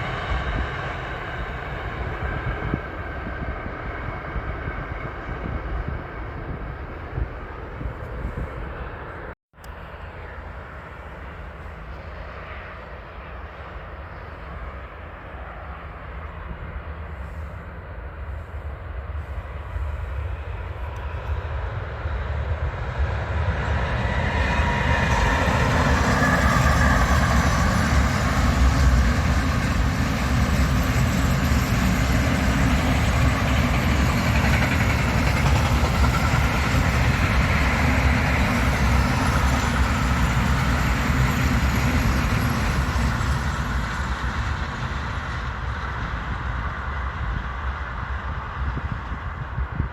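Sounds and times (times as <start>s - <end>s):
train rumble and rail noise: 0.0s - 49.9s.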